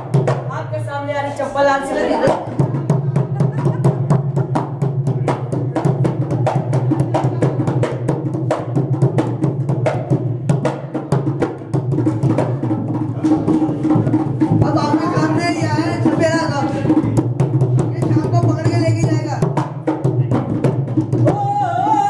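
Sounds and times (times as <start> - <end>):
hand drum beating: 0.0 - 0.6, 2.2 - 22.0.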